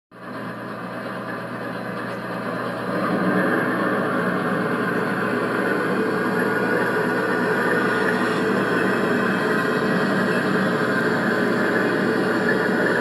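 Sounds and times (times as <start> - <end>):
diesel engine sound from small speaker: 0.2 - 13.0.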